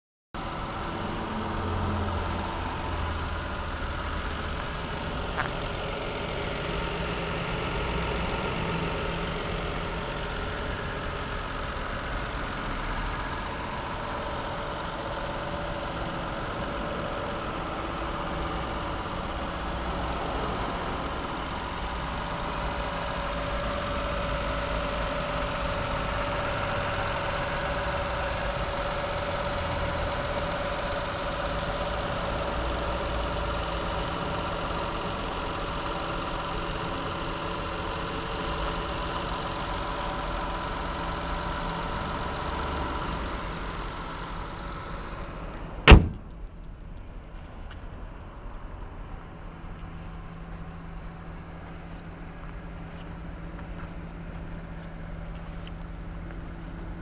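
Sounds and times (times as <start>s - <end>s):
car engine idling: 0.4s - 57.0s.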